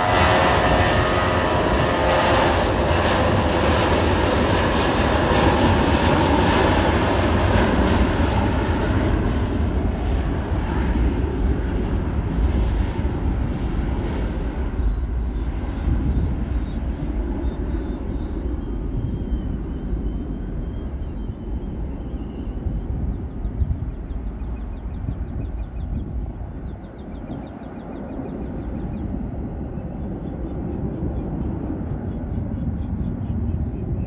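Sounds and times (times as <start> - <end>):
airliner engines passing: 0.0 - 34.0.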